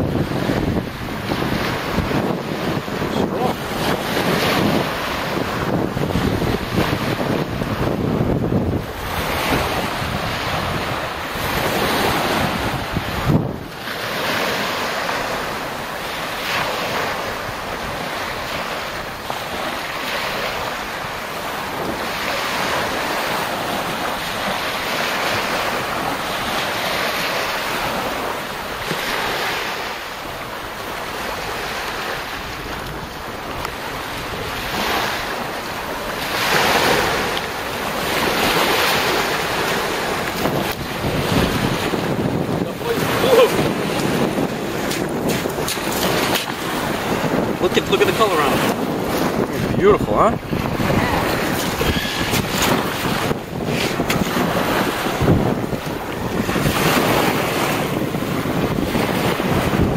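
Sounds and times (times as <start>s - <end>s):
small waves on pebbly beach: 0.0s - 59.9s
wind buffeting microphone: 0.0s - 59.9s.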